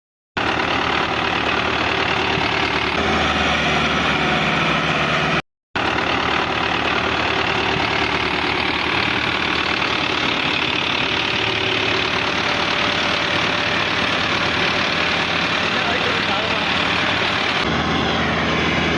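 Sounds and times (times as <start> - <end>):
tractor diesel engine running: 0.4 - 18.9.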